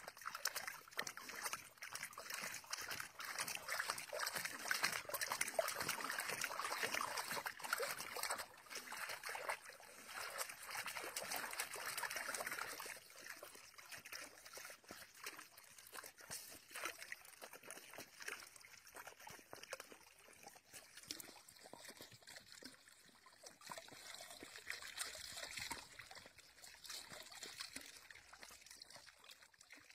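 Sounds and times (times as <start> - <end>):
dog splashing in water: 0.0 - 28.9.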